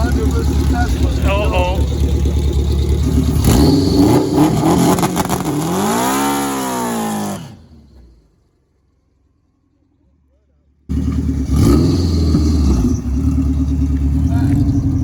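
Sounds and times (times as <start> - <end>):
car engine revving: 0.0 - 9.2, 10.8 - 15.0.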